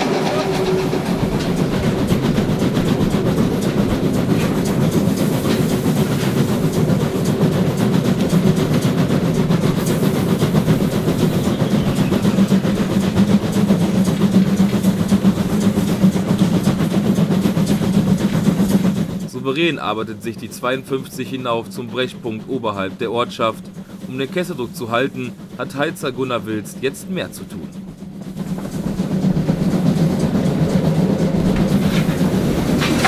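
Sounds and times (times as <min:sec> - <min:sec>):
steam locomotive working uphill: 0:00.0 - 0:33.0.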